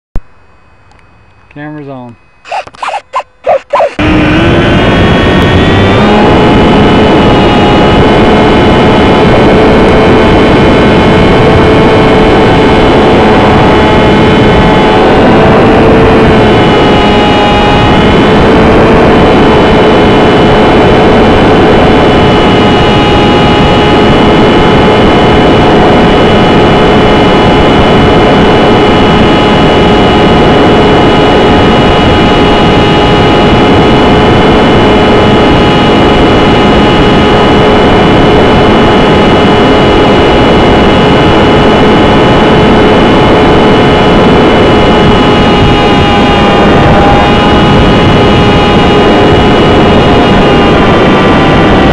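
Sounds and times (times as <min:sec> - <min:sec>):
electric motor and propeller whining: 0:00.4 - 0:51.9.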